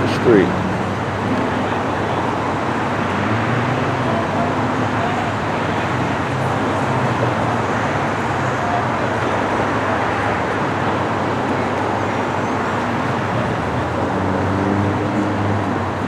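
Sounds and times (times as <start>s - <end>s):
low engine hum: 0.0s - 16.0s
road traffic: 0.0s - 16.0s.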